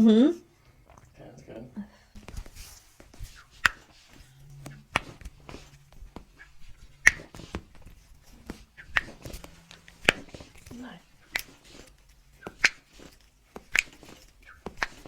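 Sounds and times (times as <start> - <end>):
faint low hum: 0.0 - 12.4.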